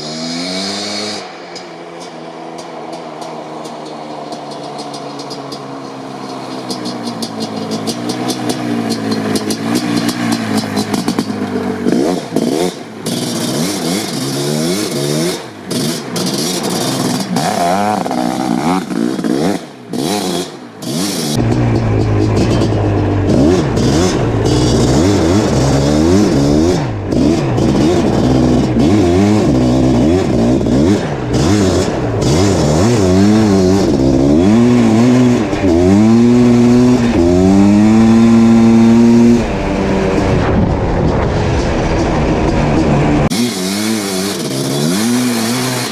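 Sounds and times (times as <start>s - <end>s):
two-stroke quad engine revving: 0.0s - 45.9s.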